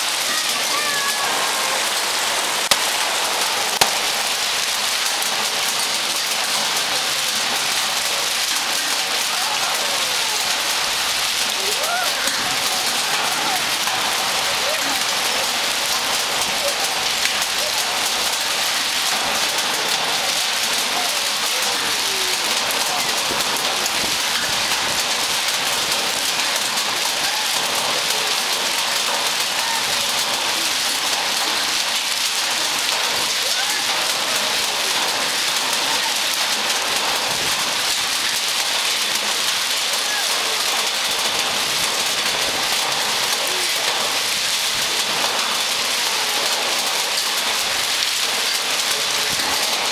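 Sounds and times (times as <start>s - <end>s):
heavy rain and hail pelting ground: 0.0s - 49.9s.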